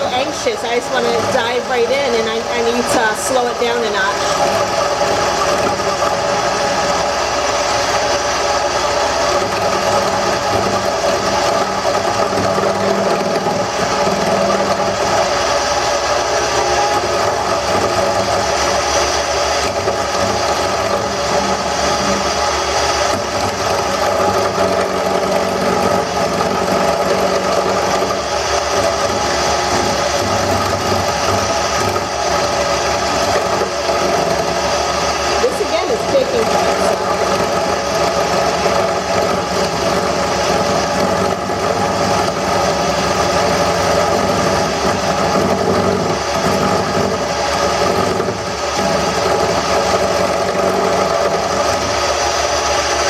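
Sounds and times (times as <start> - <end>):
gouge cutting spinning wood: 0.0 - 53.0
wood lathe running: 0.0 - 53.0.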